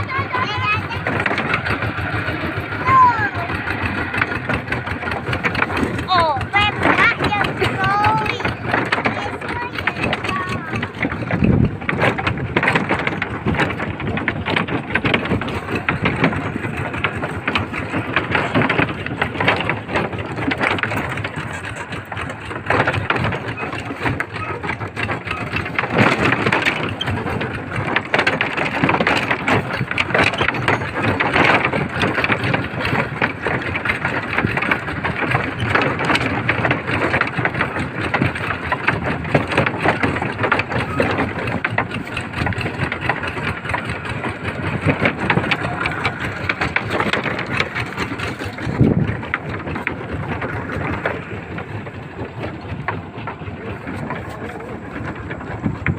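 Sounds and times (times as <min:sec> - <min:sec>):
small tractor engine clatter: 0:00.0 - 0:55.9.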